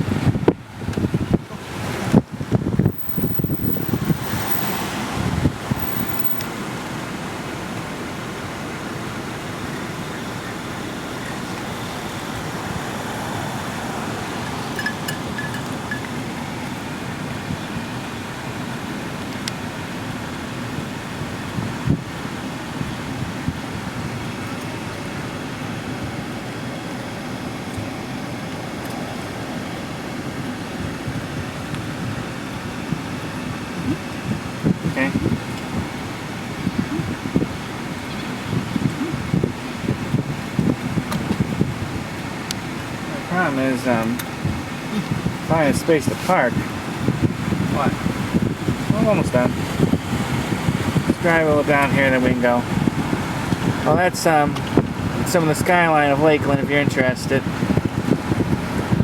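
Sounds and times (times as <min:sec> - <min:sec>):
wind buffeting microphone: 0:00.0 - 0:26.4, 0:29.1 - 0:59.0
car interior engine rumble: 0:00.0 - 0:59.0.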